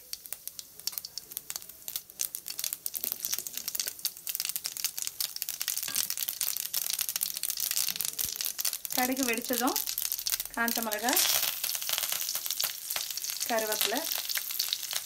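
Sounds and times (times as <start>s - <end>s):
seeds crackling in hot oil: 0.0s - 15.0s.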